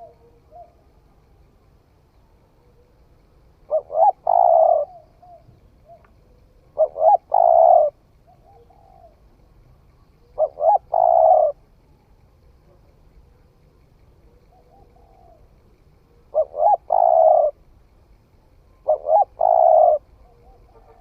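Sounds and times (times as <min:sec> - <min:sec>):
dove cooing: 0:00.0 - 0:01.4, 0:02.3 - 0:17.8, 0:18.6 - 0:21.0.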